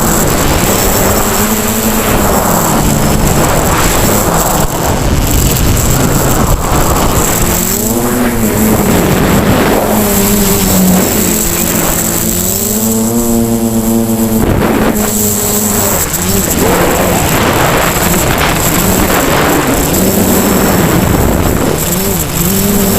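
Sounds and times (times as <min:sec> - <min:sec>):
quadcopter motors and propellers: 0:00.0 - 0:22.9
rush of air: 0:00.0 - 0:22.9.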